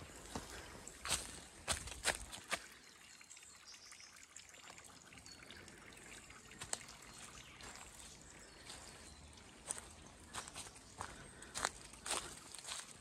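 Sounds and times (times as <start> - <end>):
trickle of running water: 0.1 - 13.0.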